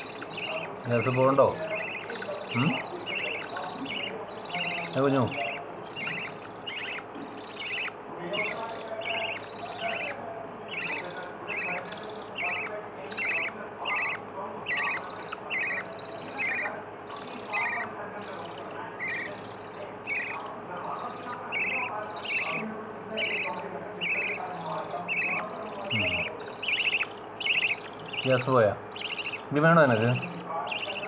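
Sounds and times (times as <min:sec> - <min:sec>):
chicks chirping raspily: 0:00.0 - 0:31.0
faint steady hum: 0:00.0 - 0:31.0.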